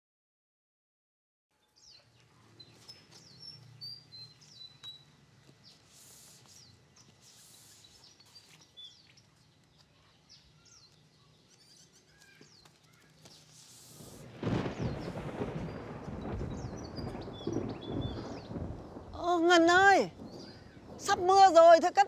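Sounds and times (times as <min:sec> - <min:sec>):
small birds chirping: 0:01.6 - 0:22.0.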